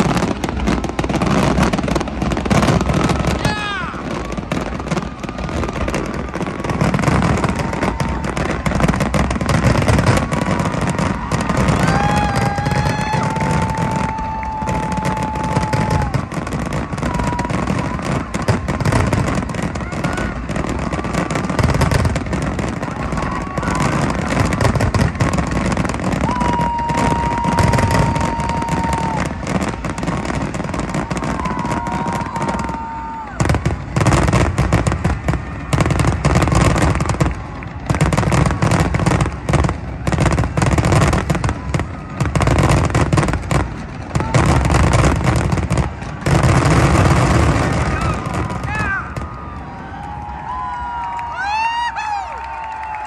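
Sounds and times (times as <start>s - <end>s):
fireworks bursting and crackling: 0.0s - 53.0s.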